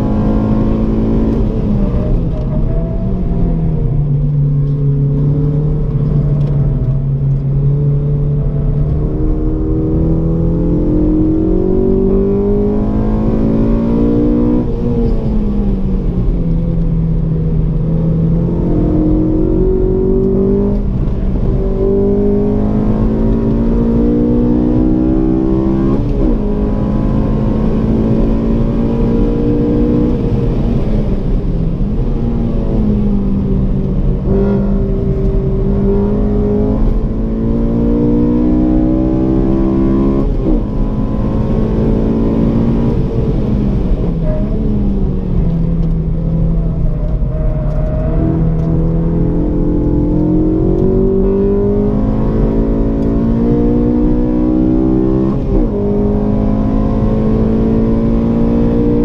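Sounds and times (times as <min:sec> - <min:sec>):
car engine accelerating through gears: 0:00.0 - 0:59.0.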